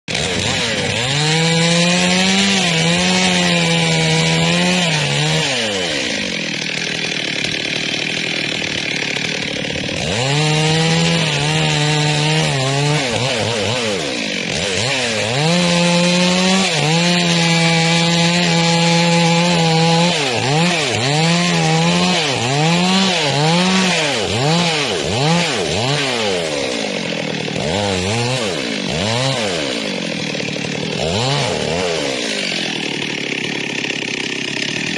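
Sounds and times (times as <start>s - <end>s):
chainsaw cutting: 0.0s - 34.9s.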